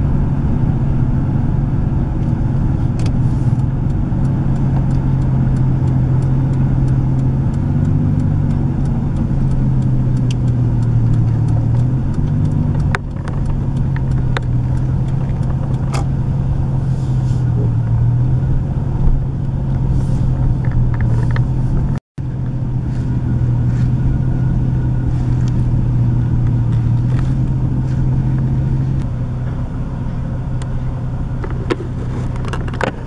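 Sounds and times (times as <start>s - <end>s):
car engine and tyre drone: 0.0s - 33.0s.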